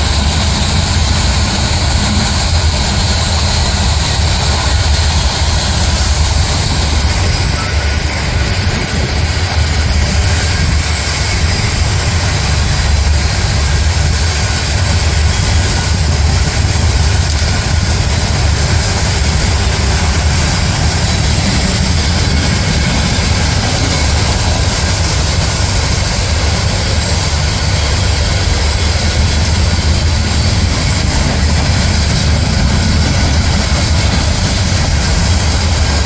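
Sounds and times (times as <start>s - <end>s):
diesel engine drone: 0.0s - 36.0s
mechanical rush: 0.0s - 36.0s.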